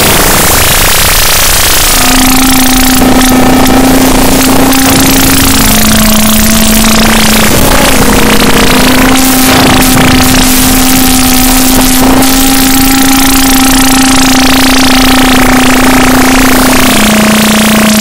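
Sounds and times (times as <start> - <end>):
distorted noise wall: 0.0 - 18.0
low drone: 0.0 - 18.0.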